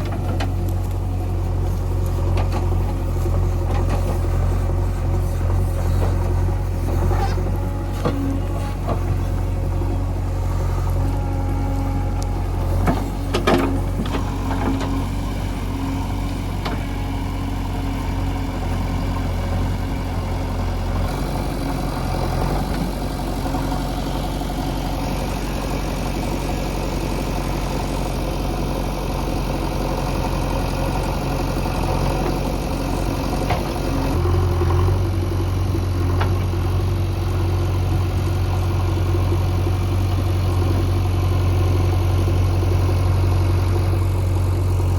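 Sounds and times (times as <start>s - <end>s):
heavy diesel engine idling: 0.0s - 44.9s.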